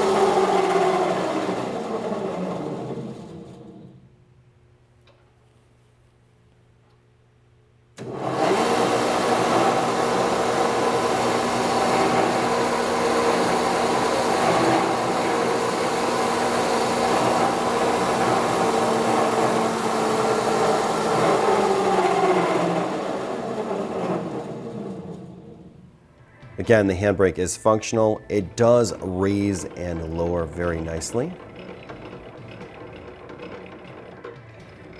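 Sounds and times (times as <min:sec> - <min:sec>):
machine winding down: 0:00.0 - 0:04.2, 0:08.0 - 0:34.9
planer machine humming: 0:00.0 - 0:04.2, 0:08.0 - 0:26.0, 0:26.6 - 0:34.9.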